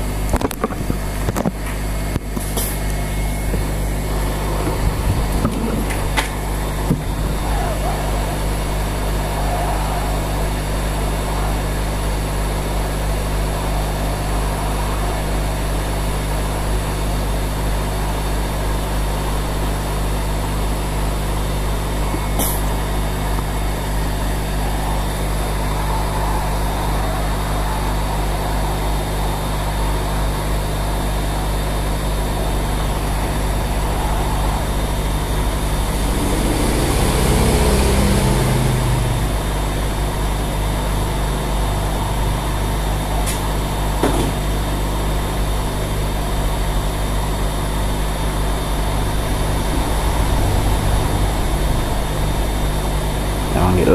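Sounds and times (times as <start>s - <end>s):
hot-air rework station blowing: 0.0s - 53.9s.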